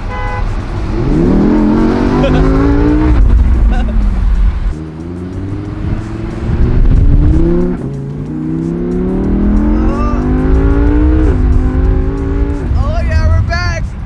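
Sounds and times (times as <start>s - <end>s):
car engine accelerating: 0.5s - 13.2s.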